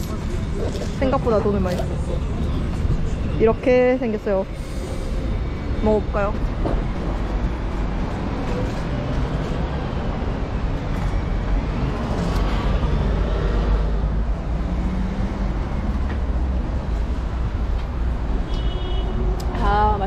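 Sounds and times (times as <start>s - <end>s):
low rumble of traffic: 0.0s - 20.0s.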